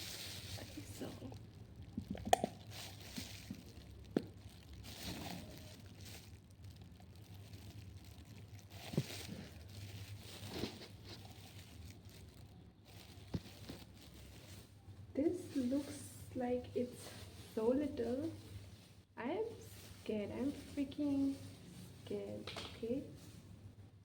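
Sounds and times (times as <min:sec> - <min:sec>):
plastic crinkling: 0:00.0 - 0:23.4.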